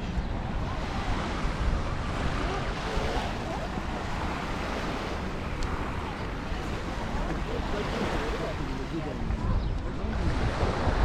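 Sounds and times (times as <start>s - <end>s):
surf washing onto beach: 0.0s - 11.0s
wind rumbling on microphone: 0.0s - 11.0s.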